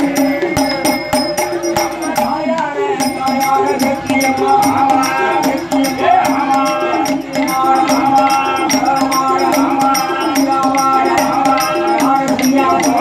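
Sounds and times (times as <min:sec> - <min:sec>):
folk percussion: 0:00.0 - 0:13.0
jingling bells: 0:00.0 - 0:13.0
people singing: 0:00.0 - 0:13.0.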